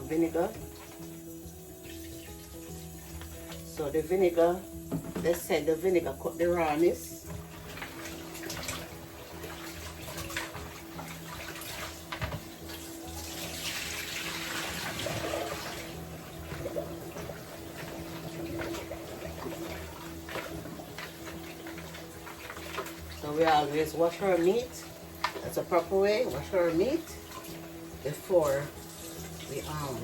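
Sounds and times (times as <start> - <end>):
tap water running and splashing: 0.0 - 30.0.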